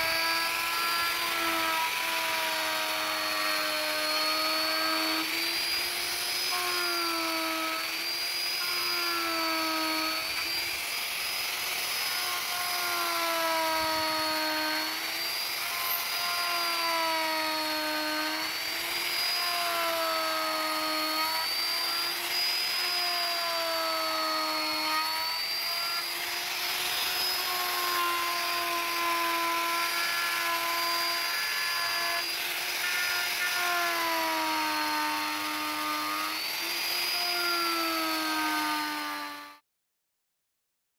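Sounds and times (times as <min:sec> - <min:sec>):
wood router cutting wood: 0:00.0 - 0:39.6.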